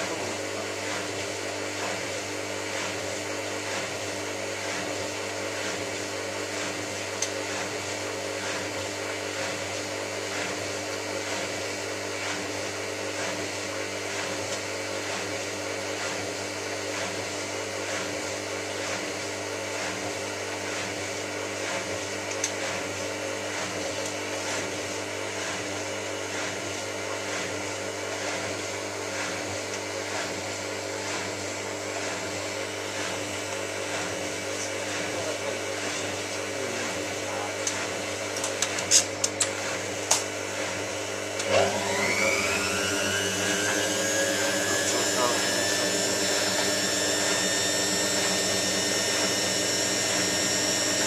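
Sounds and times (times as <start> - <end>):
washing machine running: 0.0 - 51.0.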